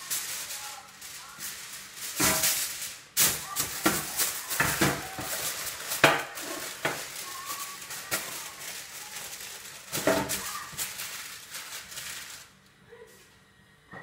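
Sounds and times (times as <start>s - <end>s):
aluminium foil crinkling: 0.0s - 13.2s.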